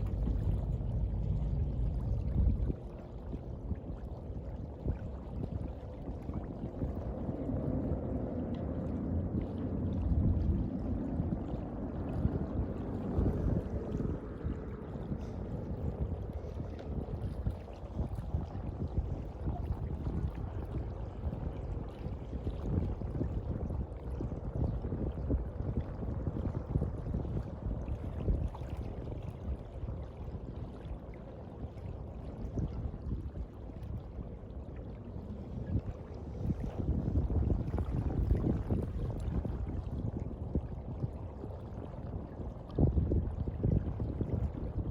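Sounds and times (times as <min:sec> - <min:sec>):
sea water sloshing and lapping: 0:00.0 - 0:44.9
wind rumble on microphone: 0:00.0 - 0:44.9.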